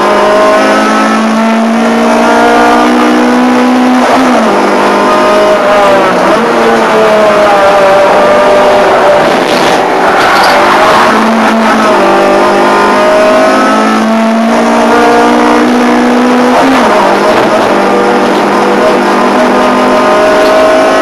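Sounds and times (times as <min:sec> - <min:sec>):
race car engine from inside cabin: 0:00.0 - 0:21.0.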